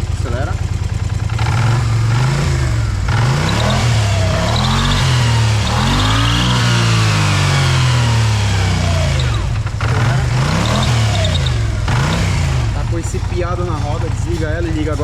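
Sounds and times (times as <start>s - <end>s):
high chirp from wheel drive: 0.0s - 15.0s
scooter engine revving: 0.0s - 15.0s.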